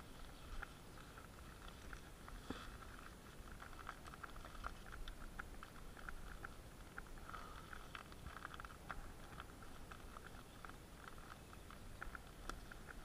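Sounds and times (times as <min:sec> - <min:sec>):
bicycle rolling over dry leaves: 0:00.0 - 0:13.0.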